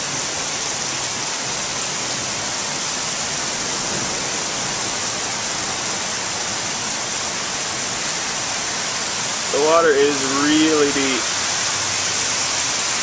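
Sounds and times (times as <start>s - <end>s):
floodwater rushing down street: 0.0s - 13.0s
heavy rain falling: 0.0s - 13.0s.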